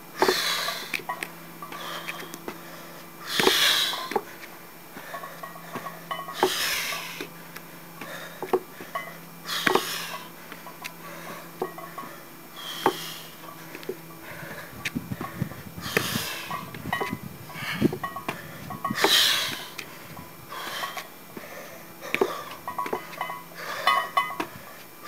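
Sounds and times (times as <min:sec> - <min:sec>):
man breathing hard: 0:00.2 - 0:01.0, 0:01.6 - 0:24.9.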